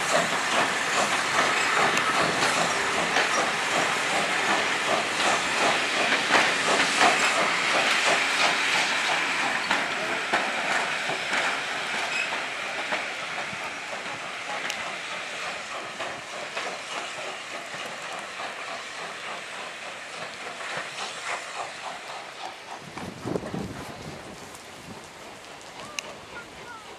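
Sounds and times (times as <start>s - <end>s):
steam hissing: 0.0s - 26.9s
steam locomotive working hard: 0.0s - 26.9s
train wheels clattering over rail joints: 0.0s - 26.9s.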